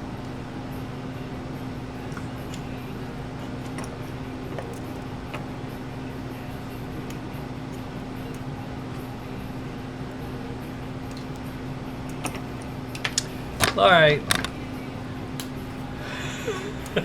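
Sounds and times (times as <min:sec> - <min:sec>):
fan-like hum: 0:00.0 - 0:17.0.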